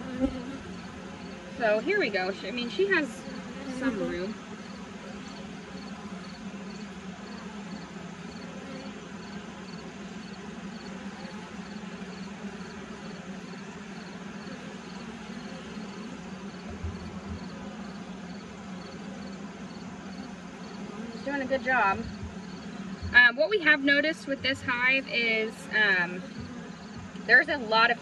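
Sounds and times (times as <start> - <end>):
honey bees buzzing: 0.0 - 28.0.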